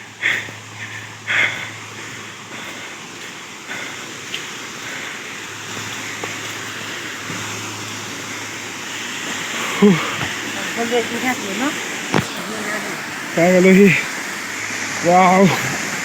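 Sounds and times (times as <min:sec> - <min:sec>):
waterfall rushing water: 0:00.0 - 0:16.0.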